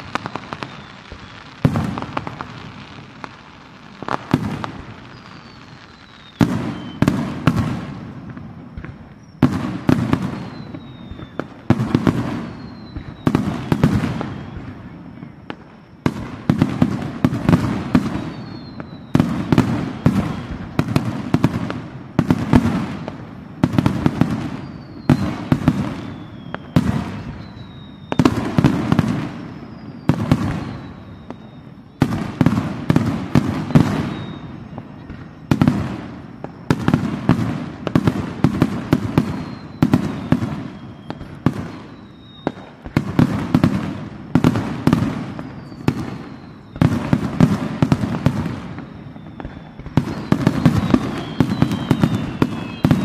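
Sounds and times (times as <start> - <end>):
falling whistles: 0.0 - 53.0.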